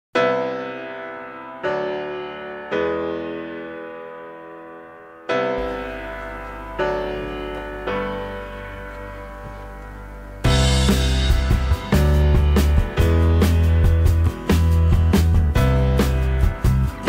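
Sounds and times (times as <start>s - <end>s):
sustained keyboard chords: 0.2s - 17.0s.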